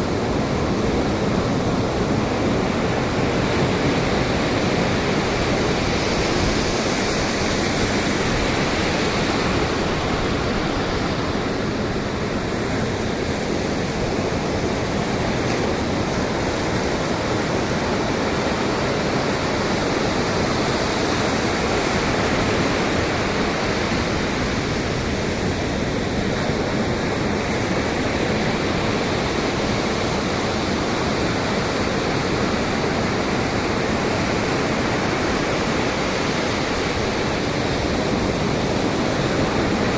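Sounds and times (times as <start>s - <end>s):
breaking waves: 0.0s - 39.9s
wind: 0.0s - 39.9s.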